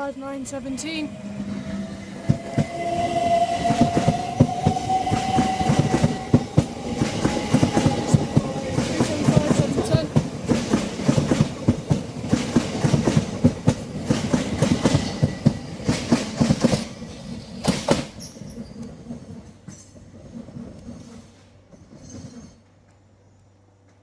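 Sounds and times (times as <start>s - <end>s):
train wheels clattering: 0.5s - 23.1s.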